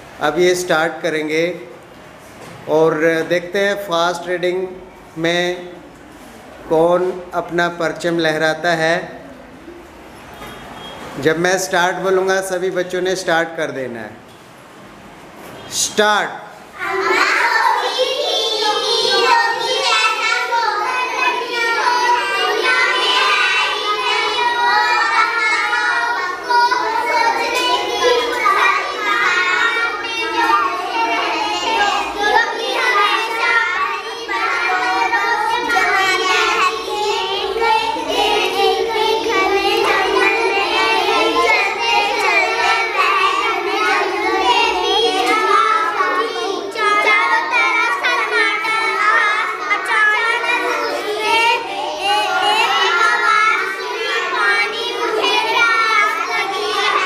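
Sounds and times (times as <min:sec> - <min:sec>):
girls reading aloud: 0:00.0 - 0:57.0.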